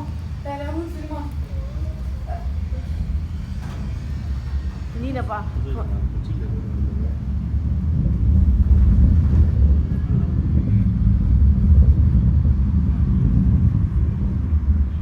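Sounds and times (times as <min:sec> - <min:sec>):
rocket rumble: 0:00.0 - 0:15.0.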